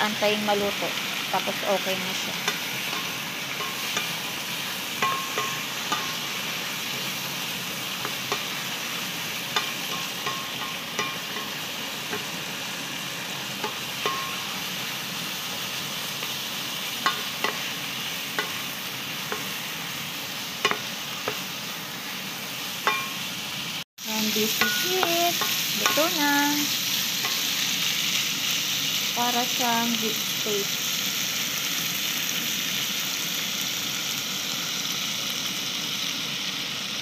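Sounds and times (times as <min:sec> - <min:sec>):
meat sizzling in frying pan: 0:00.0 - 0:37.0.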